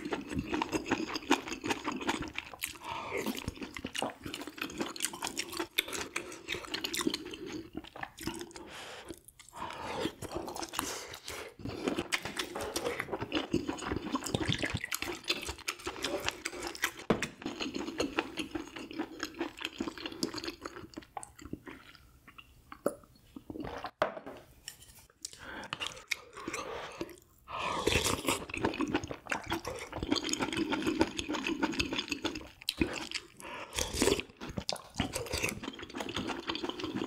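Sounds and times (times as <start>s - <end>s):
person chewing food: 0.0s - 24.0s, 24.6s - 37.0s.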